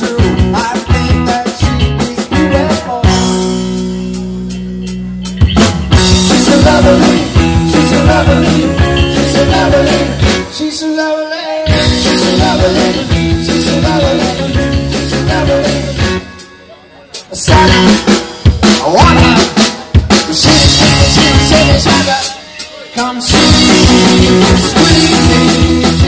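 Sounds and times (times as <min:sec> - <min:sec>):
driving drum beat: 0:00.0 - 0:10.8, 0:11.6 - 0:26.0
loud rock music: 0:00.0 - 0:26.0.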